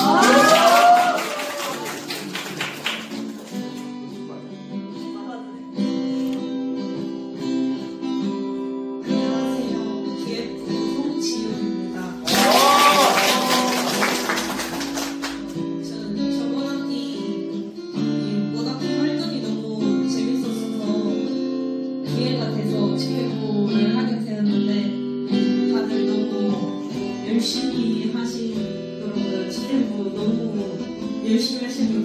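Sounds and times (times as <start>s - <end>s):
acoustic guitar chords: 0.0s - 0.4s, 1.8s - 32.0s.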